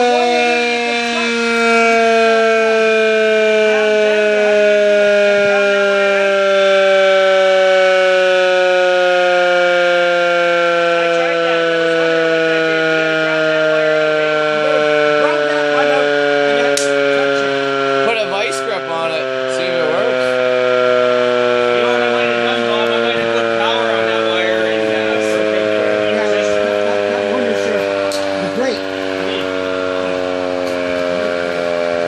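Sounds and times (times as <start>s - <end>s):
mechanical siren wailing: 0.0s - 32.0s.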